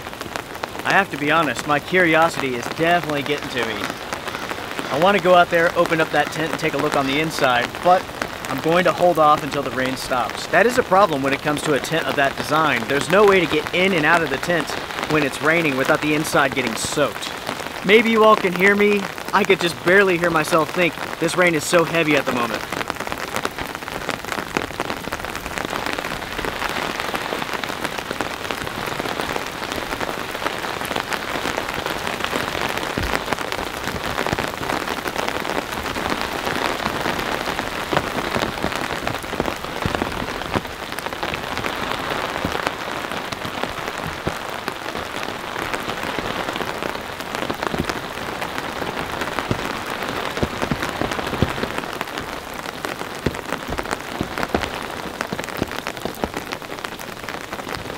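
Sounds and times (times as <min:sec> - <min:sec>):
heavy rain on tent fabric: 0:00.0 - 0:57.9.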